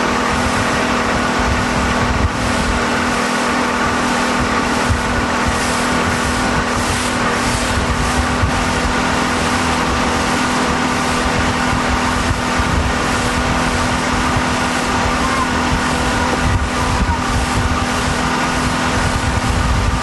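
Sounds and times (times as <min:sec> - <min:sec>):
outboard motor droning: 0:00.0 - 0:20.0
wind on microphone: 0:00.0 - 0:20.0.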